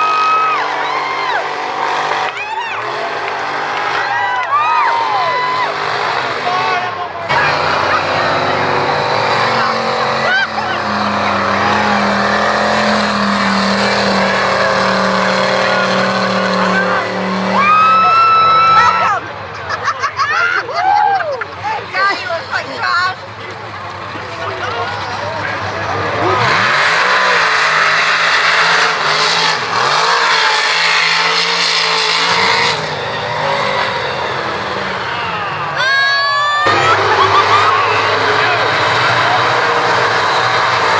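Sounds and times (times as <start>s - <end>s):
truck engine revving high: 0.0s - 19.8s, 21.6s - 40.9s
truck churning through mud: 0.0s - 20.2s, 21.2s - 40.9s.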